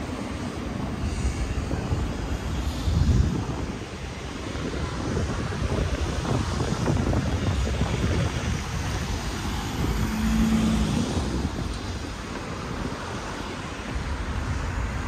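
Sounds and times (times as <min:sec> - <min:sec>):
traffic noise: 0:00.0 - 0:15.0
wind buffeting microphone: 0:00.0 - 0:15.0.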